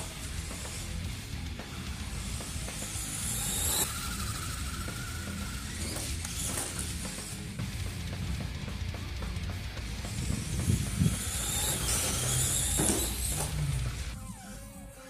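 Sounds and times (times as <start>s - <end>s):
toy truck electric motor whining: 0.0s - 7.6s, 10.1s - 14.6s
background music: 0.0s - 15.0s.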